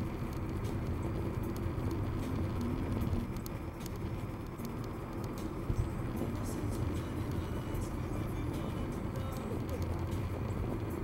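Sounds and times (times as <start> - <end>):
car engine and tyre drone: 0.0 - 11.0
light ticks: 0.2 - 5.6, 6.3 - 10.6.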